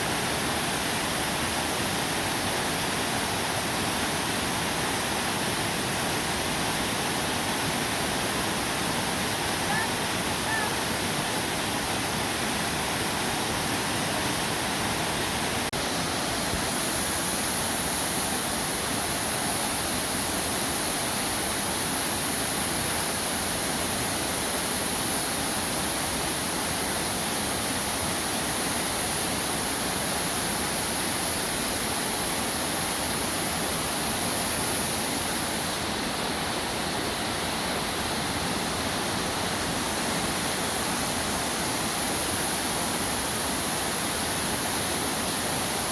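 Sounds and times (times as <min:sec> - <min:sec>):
high steady hiss: 0:00.0 - 0:45.9
waterfall rushing: 0:00.0 - 0:45.9.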